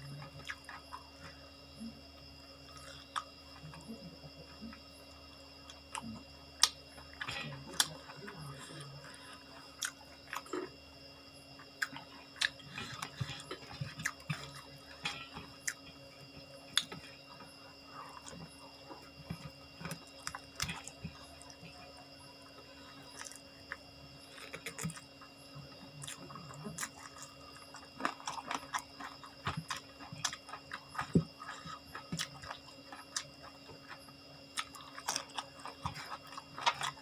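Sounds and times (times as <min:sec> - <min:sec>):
person chewing food: 0:00.0 - 0:10.9, 0:11.5 - 0:37.0.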